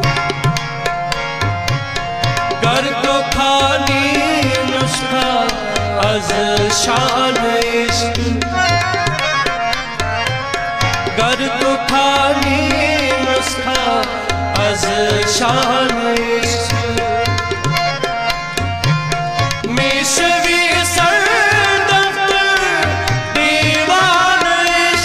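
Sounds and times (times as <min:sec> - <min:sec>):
ornamented melody: 0:00.0 - 0:24.9
tabla rhythm: 0:00.0 - 0:25.0.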